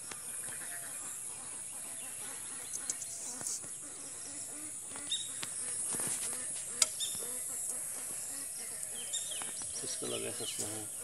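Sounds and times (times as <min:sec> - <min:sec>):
distant birds calling: 0:00.0 - 0:11.0.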